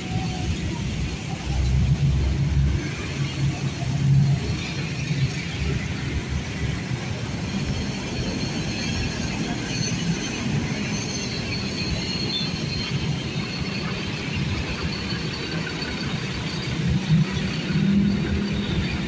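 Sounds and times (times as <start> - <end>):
buses and motorcycles passing: 0.0 - 19.0.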